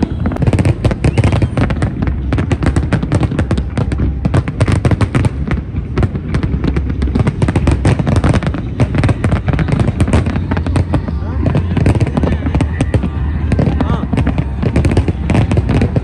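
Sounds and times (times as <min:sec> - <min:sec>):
deep low rumble: 0:00.0 - 0:16.0
fireworks bangs and crackles: 0:00.0 - 0:16.0.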